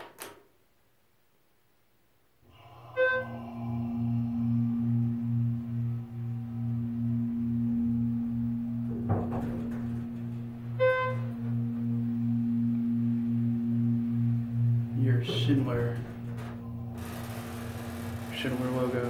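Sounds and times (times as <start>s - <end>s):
elevator drive humming: 2.4s - 19.0s
pulsing low drone: 2.4s - 19.0s
electronic elevator ding: 2.5s - 19.0s.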